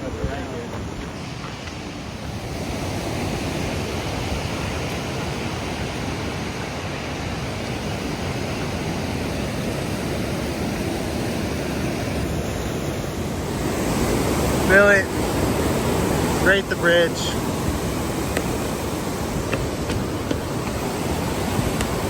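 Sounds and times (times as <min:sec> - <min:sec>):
rush of fast-flowing water: 0:01.1 - 0:22.0.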